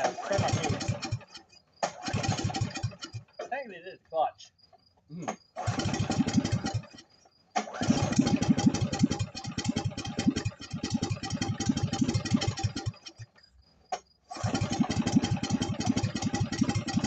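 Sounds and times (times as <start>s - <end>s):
tractor engine with exhaust pops: 0.0s - 17.0s.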